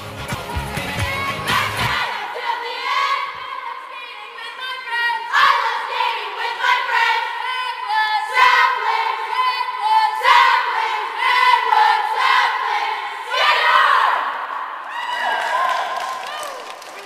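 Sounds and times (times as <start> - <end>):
women shouting and cheering: 1.0 - 16.8.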